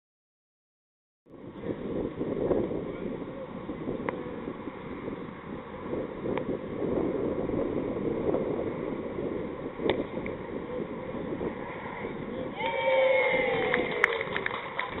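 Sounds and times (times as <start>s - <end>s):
wind buffeting microphone: 1.3s - 15.0s.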